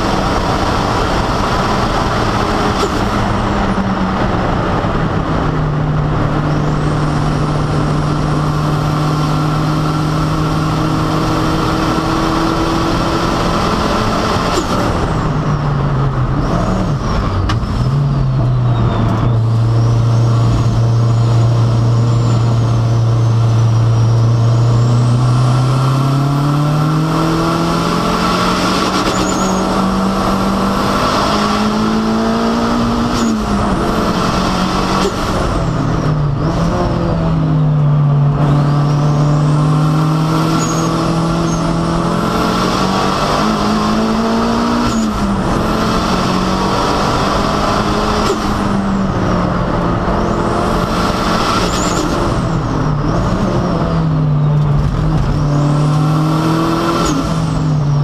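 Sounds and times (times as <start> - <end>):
turbocharged car engine racing: 0.0 - 58.0.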